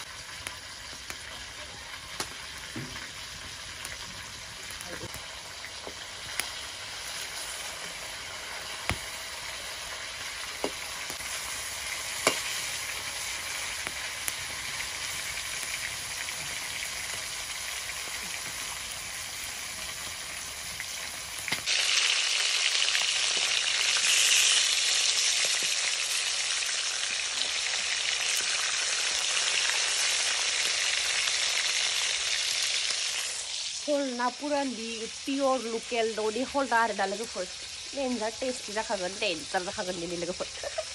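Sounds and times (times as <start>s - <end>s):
fish sizzling in oil: 0.0s - 40.9s.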